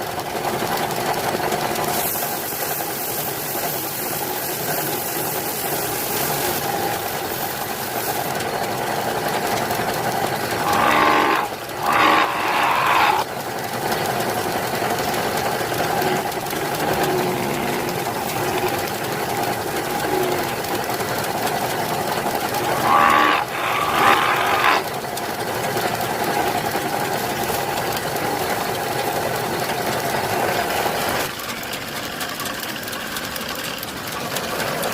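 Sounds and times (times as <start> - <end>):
woodworking machine running: 0.0 - 34.9.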